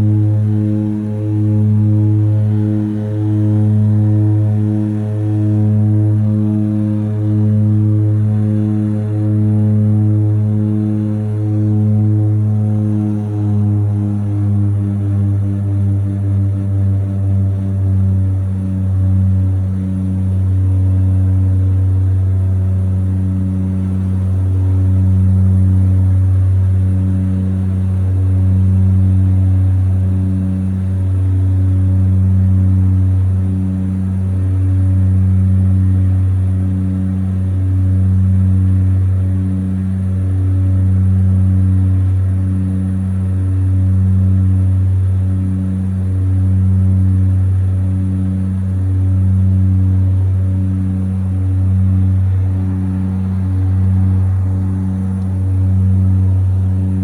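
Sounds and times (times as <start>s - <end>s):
propeller engines droning: 0.0s - 57.0s.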